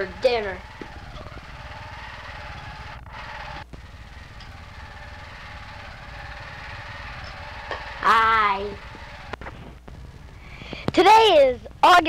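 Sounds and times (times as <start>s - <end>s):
film sound track hiss and hum: 0.0s - 12.0s.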